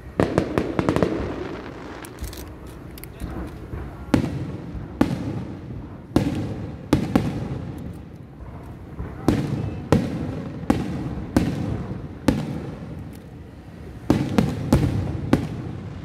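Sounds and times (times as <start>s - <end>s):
fireworks bangs with rumbling echo: 0.0s - 16.0s.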